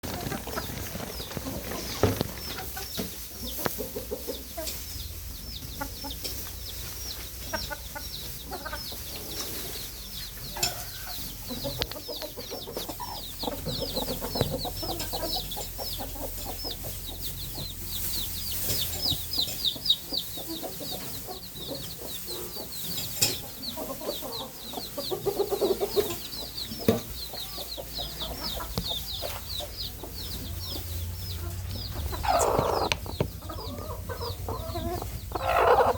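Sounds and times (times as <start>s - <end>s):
chickens clucking: 0.0s - 35.9s
chicks cheeping: 0.0s - 35.9s.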